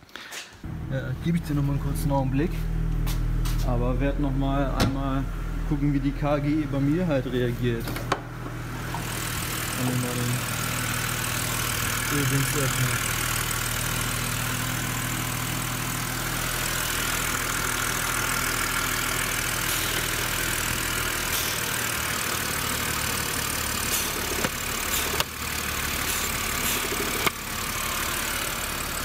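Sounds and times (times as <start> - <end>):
car engine idling: 0.6 - 29.0.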